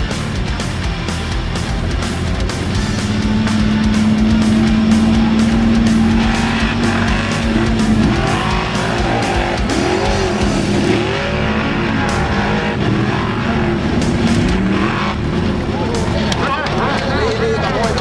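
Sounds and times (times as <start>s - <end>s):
buggy engine revving high: 0.0s - 18.0s.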